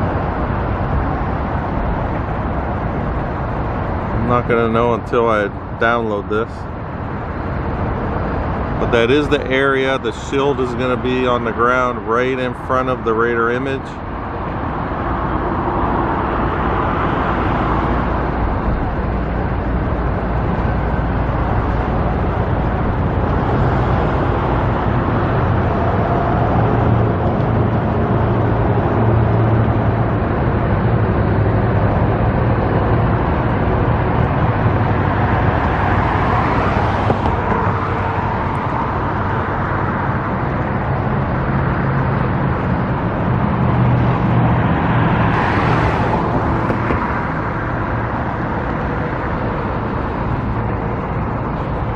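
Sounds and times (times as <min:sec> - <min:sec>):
cars passing: 0:00.0 - 0:51.9
low engine hum: 0:00.0 - 0:51.9.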